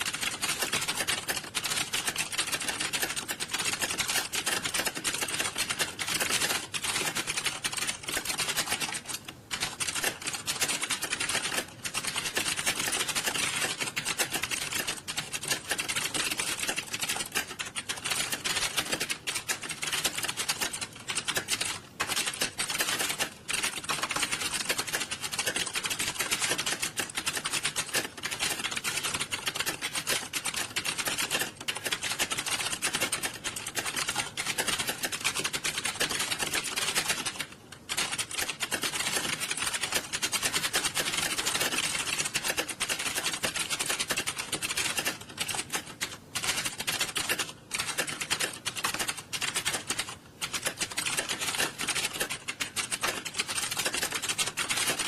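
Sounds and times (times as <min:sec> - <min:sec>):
many keyboards typing fast: 0:00.0 - 0:55.0.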